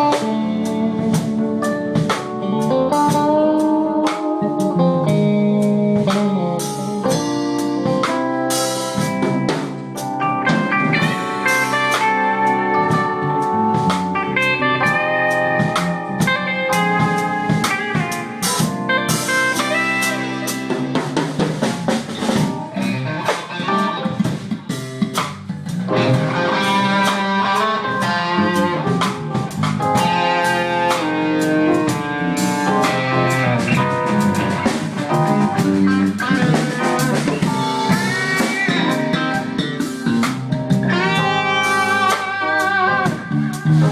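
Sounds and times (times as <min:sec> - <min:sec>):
bass guitar: 0:00.0 - 0:43.9
drum kit: 0:00.0 - 0:43.9
lead electric guitar: 0:00.0 - 0:43.9.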